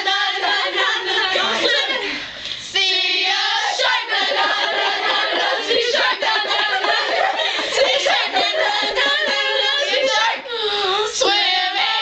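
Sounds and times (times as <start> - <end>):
girls singing and shouting: 0.0 - 12.0.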